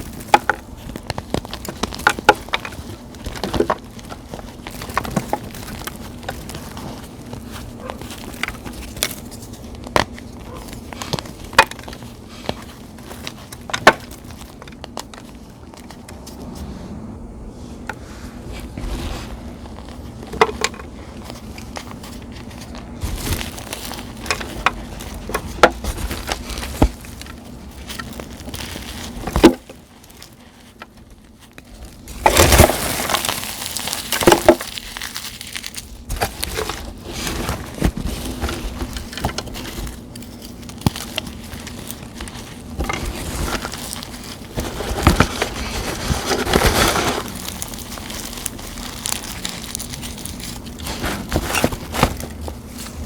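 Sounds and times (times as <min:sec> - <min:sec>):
sharp cracks and crumbling crunches: 0:00.0 - 0:16.4, 0:18.5 - 0:53.0
chalk and dried leaves crushed by hand: 0:00.0 - 0:16.8, 0:17.9 - 0:53.0.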